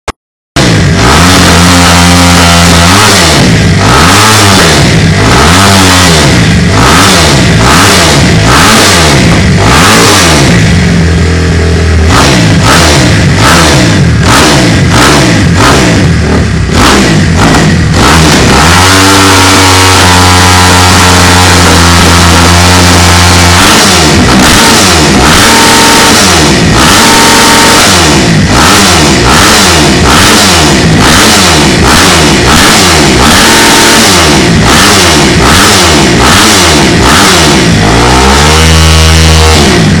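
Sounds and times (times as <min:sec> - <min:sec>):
motocross bike revving: 0:00.6 - 0:40.0.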